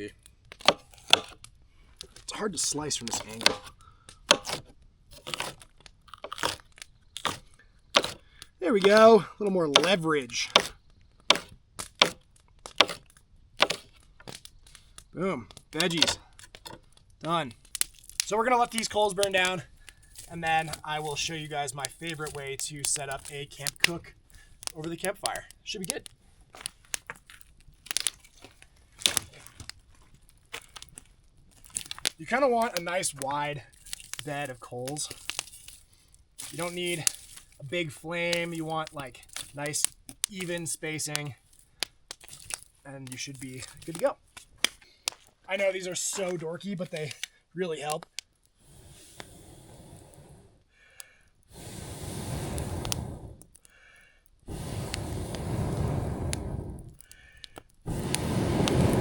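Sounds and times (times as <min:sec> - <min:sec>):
campfire crackling: 0:00.0 - 0:59.0
sharp pops of burning wood: 0:00.0 - 0:59.0.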